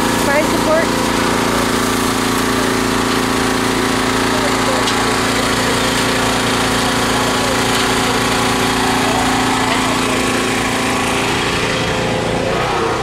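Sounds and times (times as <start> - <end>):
generator running: 0.0 - 13.0.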